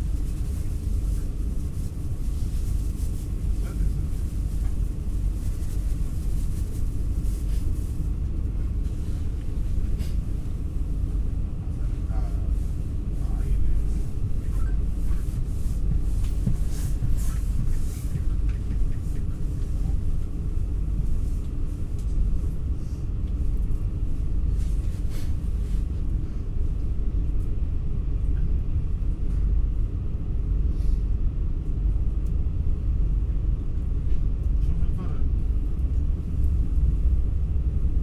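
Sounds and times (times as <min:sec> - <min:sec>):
train rumbling in motion: 0:00.0 - 0:38.0.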